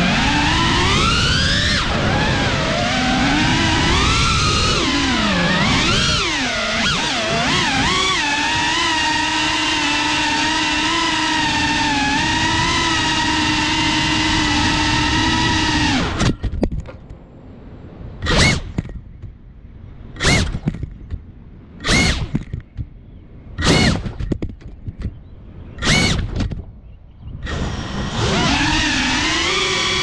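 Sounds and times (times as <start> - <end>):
drone motors whining: 0.0 - 17.1, 18.2 - 19.4, 20.0 - 21.2, 21.8 - 23.0, 23.6 - 30.0.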